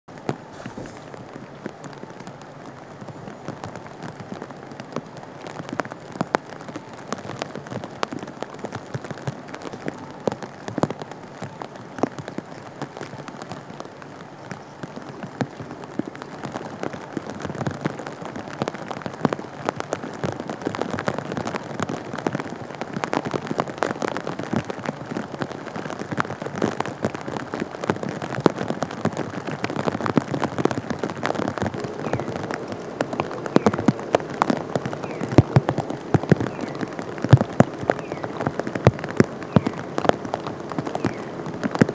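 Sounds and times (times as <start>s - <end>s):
heavy rain pattering: 0.0s - 41.9s.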